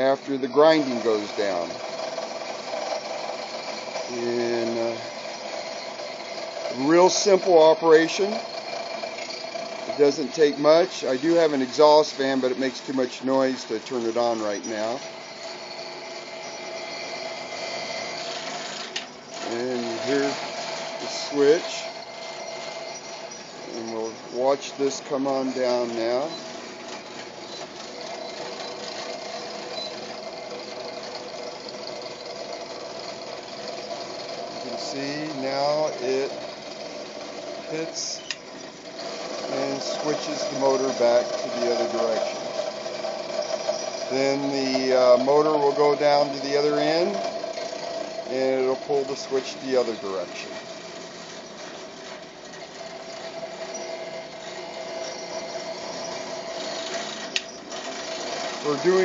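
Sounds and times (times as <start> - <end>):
knife grinder machine whine and hum: 0.0 - 59.0.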